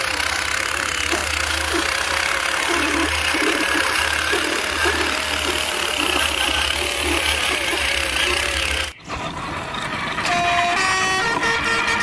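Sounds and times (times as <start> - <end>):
truck engine hum: 0.0 - 12.0.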